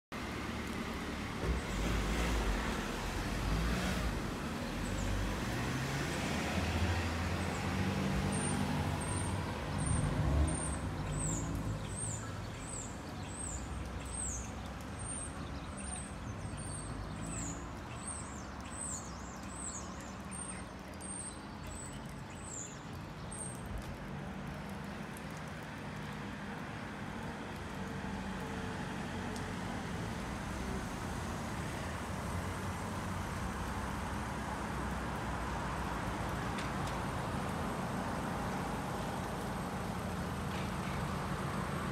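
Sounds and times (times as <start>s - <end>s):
cars passing on wet road: 0.1s - 41.9s
low traffic rumble: 0.1s - 41.9s.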